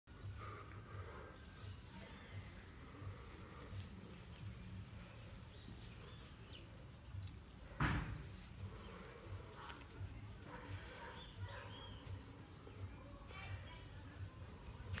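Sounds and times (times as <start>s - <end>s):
distant birds chirping: 0.1s - 15.0s.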